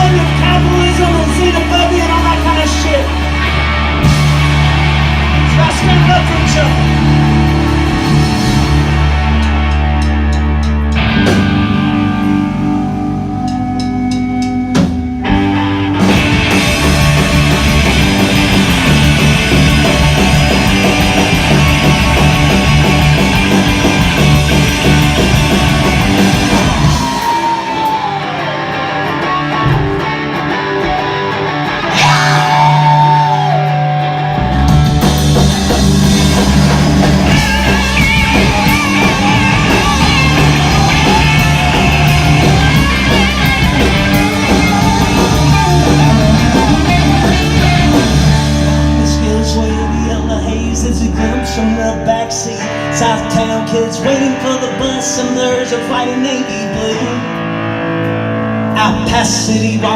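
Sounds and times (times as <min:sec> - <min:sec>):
guitar bending notes: 0:00.0 - 0:54.5
bass and drums: 0:00.0 - 0:59.9
loud electric guitars: 0:00.0 - 0:59.9.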